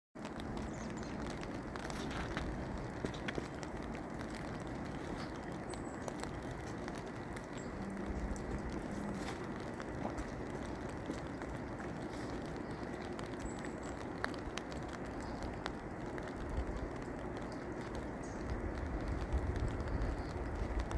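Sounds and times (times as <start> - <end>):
raindrops ticking close by: 0.2 - 20.9
steady rain hiss: 0.2 - 20.9.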